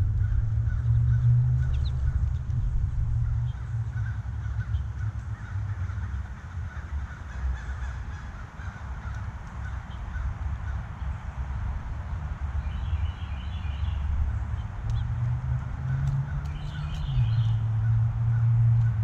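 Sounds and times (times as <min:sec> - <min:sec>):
steady low rumble: 0:00.0 - 0:19.0
birds calling: 0:00.2 - 0:19.0.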